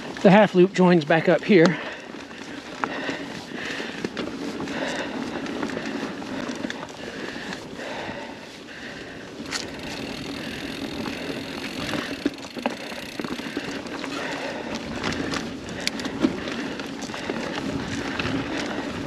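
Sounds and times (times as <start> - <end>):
bike rattling clicks and knocks: 0.0 - 19.0
bike tyres on dirt and leaves: 0.0 - 19.0.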